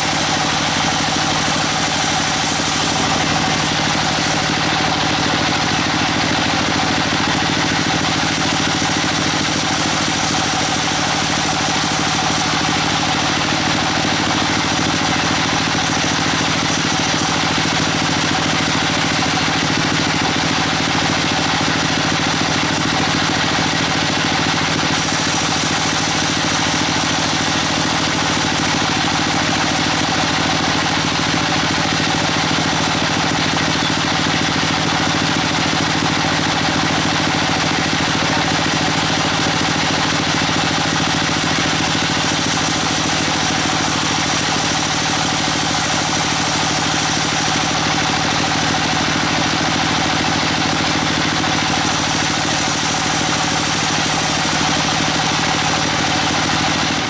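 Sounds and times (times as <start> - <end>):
band saw cutting log: 0.0 - 57.0
mill machinery drone: 0.0 - 57.0.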